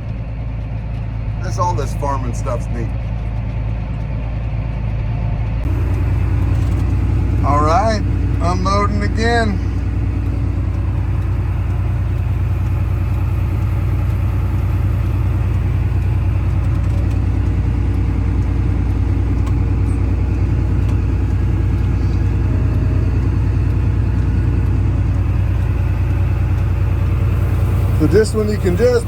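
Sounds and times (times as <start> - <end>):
tractor engine droning: 0.0 - 29.0.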